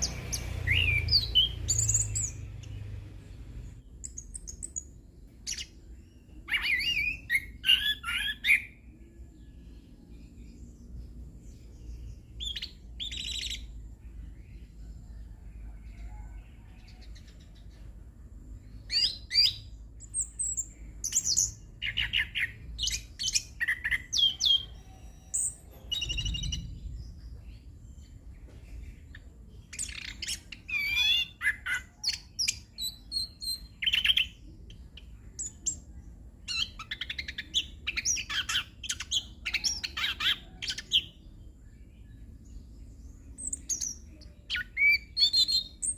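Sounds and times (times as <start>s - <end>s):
faint low hum: 0.0s - 45.9s.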